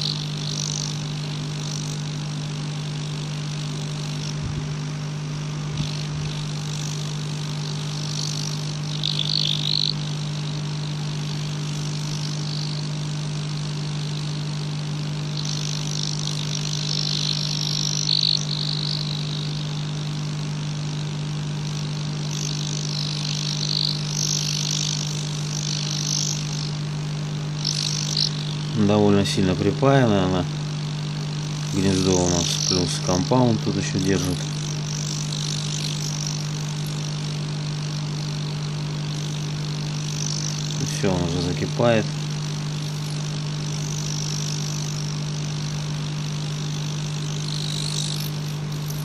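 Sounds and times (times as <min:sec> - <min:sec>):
hot-air heater fan humming: 0:00.0 - 0:49.0.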